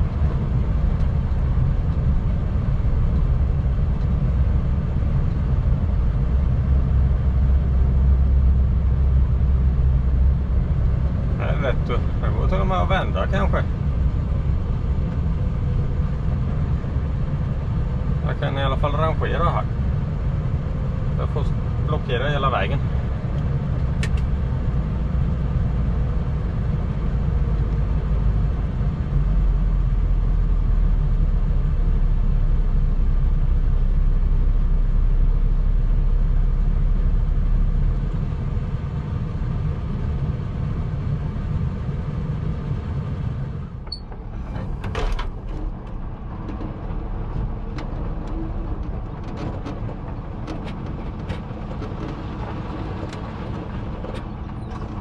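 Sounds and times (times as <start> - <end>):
truck diesel engine rumbling: 0.0 - 55.0.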